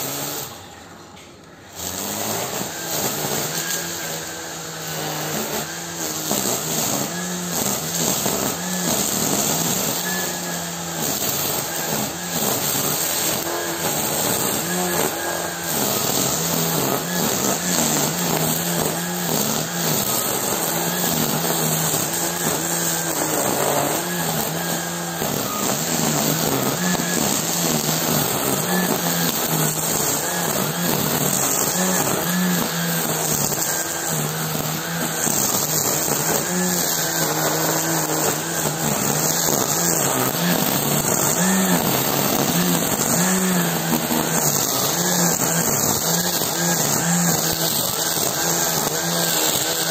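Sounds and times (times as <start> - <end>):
string trimmer motor whine: 0.0 - 0.7, 1.7 - 49.9
spinning trimmer line hiss: 1.8 - 49.9.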